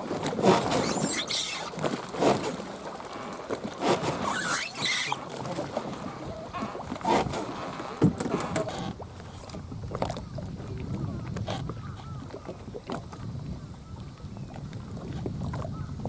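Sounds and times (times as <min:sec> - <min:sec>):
water sloshing against boat: 0:00.0 - 0:16.0.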